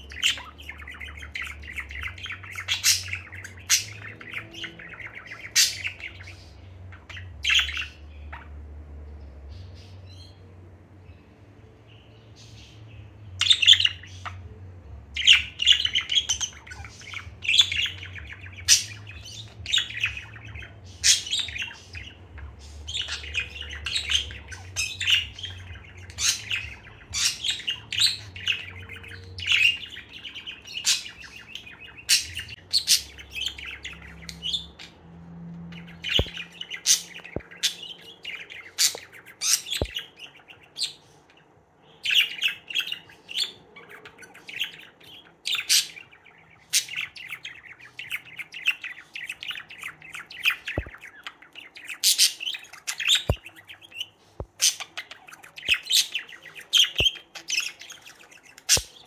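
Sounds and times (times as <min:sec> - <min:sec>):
budgerigar chirping: 0:00.0 - 0:08.6, 0:15.2 - 0:34.9, 0:35.8 - 0:41.0, 0:41.9 - 0:59.0.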